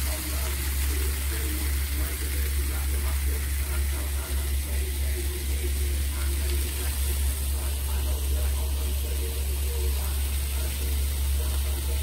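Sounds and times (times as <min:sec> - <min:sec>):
faint indistinct voices: 0:00.0 - 0:12.0.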